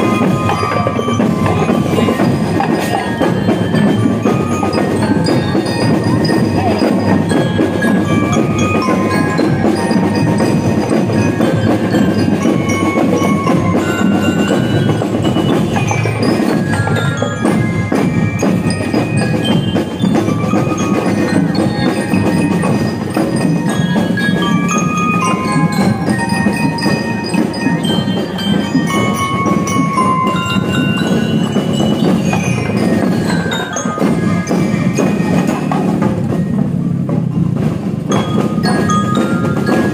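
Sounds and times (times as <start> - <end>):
bell lyres playing melody: 0.0 - 39.9
snare and bass drum beats: 0.0 - 39.9.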